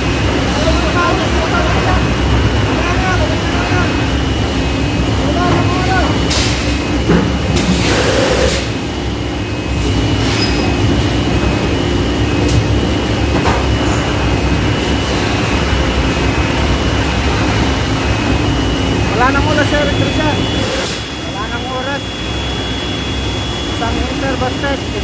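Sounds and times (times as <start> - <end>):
factory machinery drone: 0.0 - 25.0.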